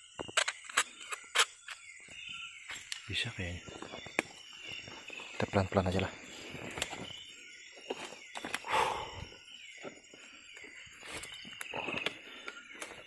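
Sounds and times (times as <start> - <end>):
insects chirring: 0.0 - 13.0
footsteps on wet forest floor: 2.0 - 13.0.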